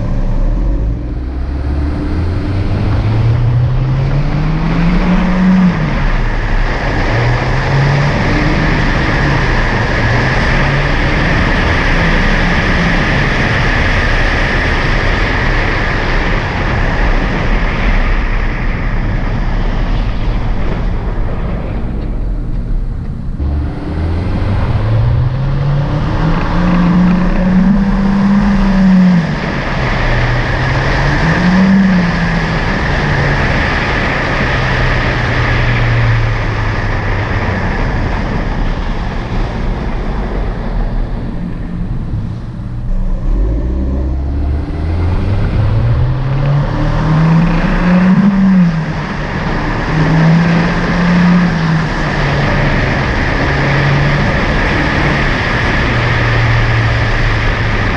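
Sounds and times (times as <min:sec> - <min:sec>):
car exhaust accelerating: 0:00.0 - 0:57.9
road and wind noise: 0:00.0 - 0:57.9.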